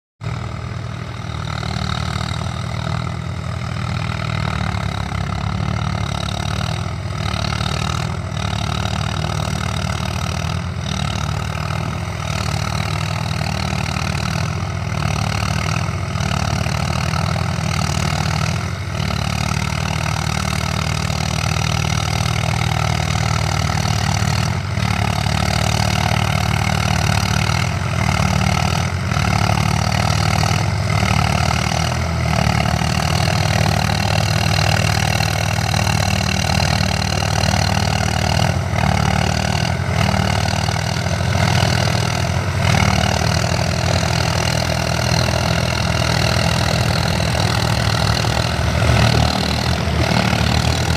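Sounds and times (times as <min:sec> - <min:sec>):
tractor diesel engine labouring: 0:00.2 - 0:50.9.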